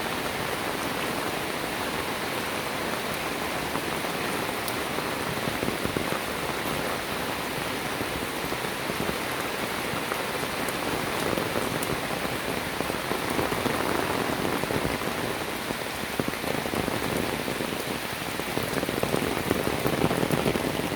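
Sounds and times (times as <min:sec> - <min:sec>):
rain pattering: 0:00.0 - 0:20.9.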